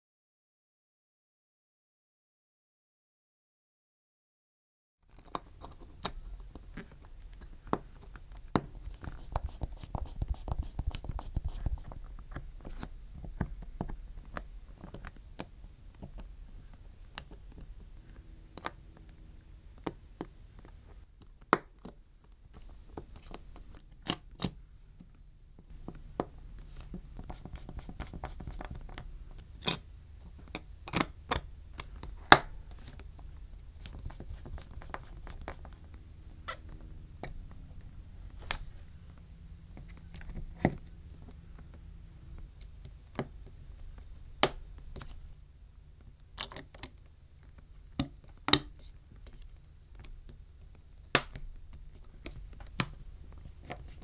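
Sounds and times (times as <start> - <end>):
small parts clicking and tapping: 5.1 - 45.4, 46.0 - 54.0.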